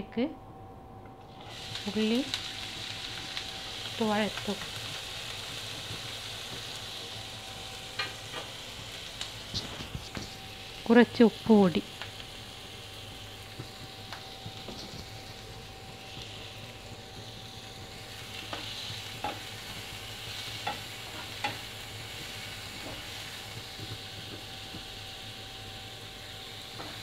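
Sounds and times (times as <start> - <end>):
vegetables sizzling in oil: 1.2 - 27.0.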